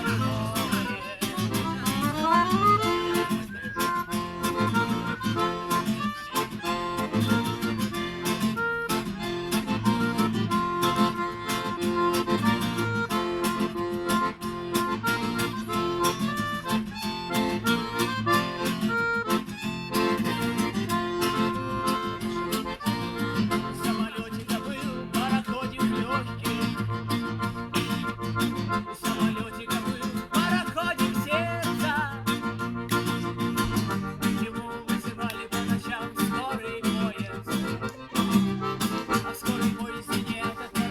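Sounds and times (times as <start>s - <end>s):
acoustic guitar strumming: 0.0s - 40.9s
harmonica melody: 0.0s - 40.9s.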